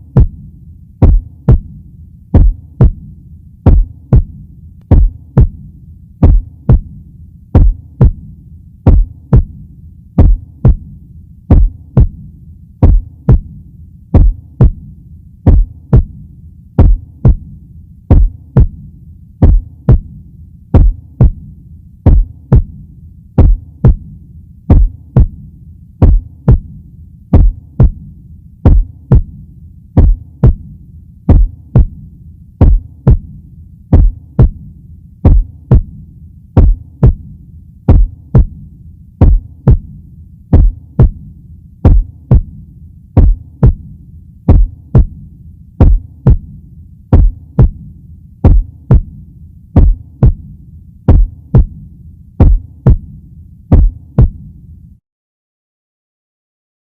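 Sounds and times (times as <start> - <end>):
heartbeat thumps: 0.0 - 7.0, 7.6 - 36.0, 36.6 - 42.6, 43.2 - 45.2, 45.8 - 54.5
continuous low hum: 0.0 - 55.0.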